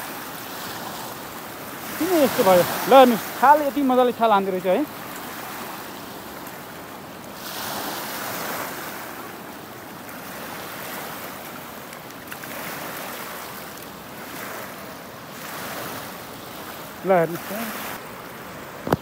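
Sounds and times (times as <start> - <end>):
river waves washing on pebbles: 0.0 - 19.0.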